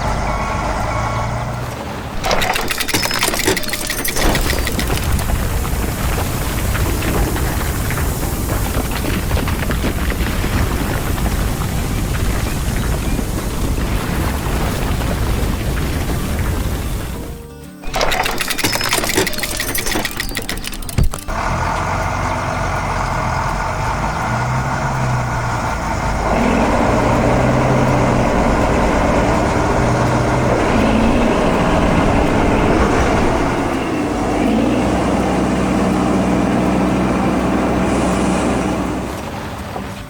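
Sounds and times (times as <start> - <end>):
heavy vehicle engine running: 0.0 - 40.0.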